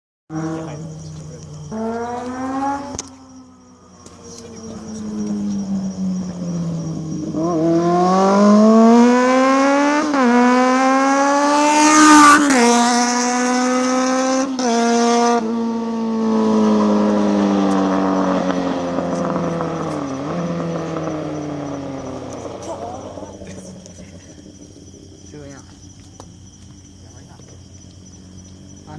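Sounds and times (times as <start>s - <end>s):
motorcycle engine accelerating and upshifting: 0.3s - 28.9s.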